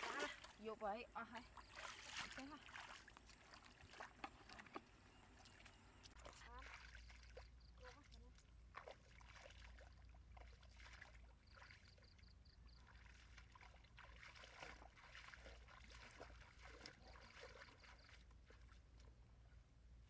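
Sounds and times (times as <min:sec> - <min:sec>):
footsteps wading through water: 0:00.0 - 0:19.6.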